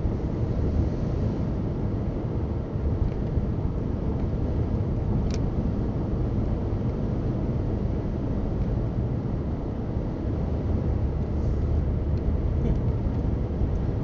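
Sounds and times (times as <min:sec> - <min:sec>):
car interior road noise: 0:00.0 - 0:14.0.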